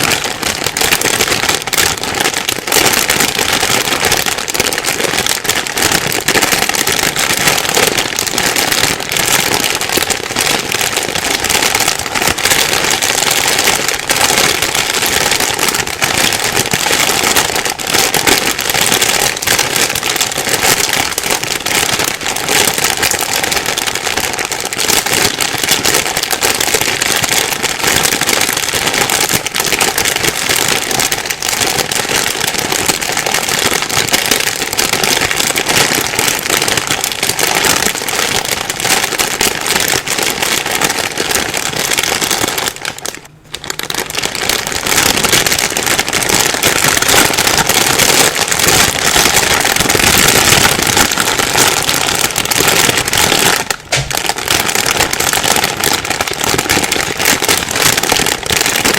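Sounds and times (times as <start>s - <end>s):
plastic bag crumpling: 0.0s - 58.9s.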